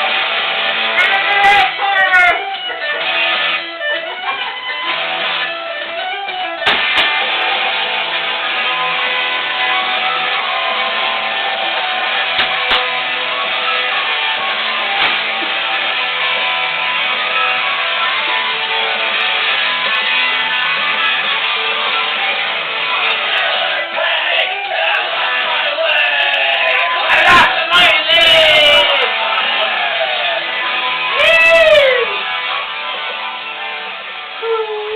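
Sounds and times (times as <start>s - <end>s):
guitar-led music: 0.0s - 34.9s.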